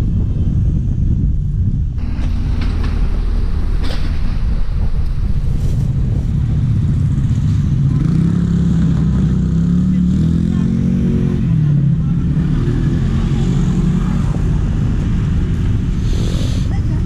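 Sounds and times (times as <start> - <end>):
motor scooter engine hum: 0.0 - 17.0
street traffic: 0.0 - 17.0
wind noise on microphone: 0.0 - 17.0.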